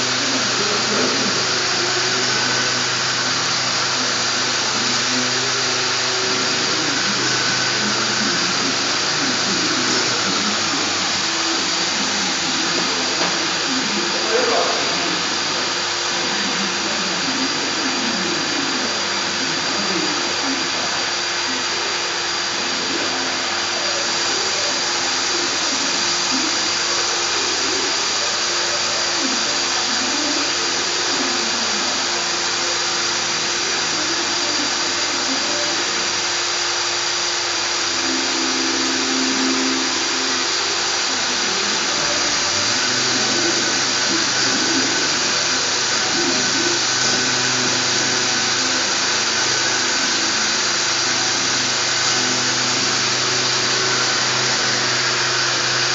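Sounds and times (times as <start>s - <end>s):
sanding machine whirring: 0.0s - 55.9s.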